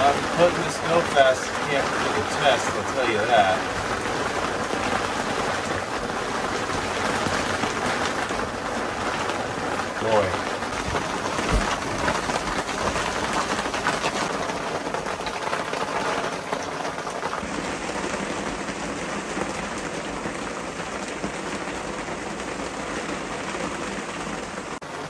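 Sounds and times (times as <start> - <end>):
heavy rain on camper: 0.0 - 25.0.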